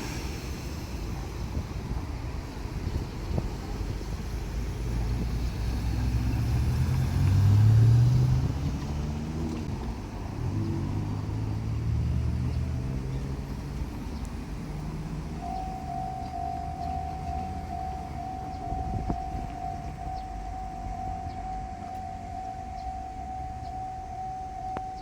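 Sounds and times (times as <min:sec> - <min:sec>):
railcar engine low hum: 0:00.0 - 0:25.0.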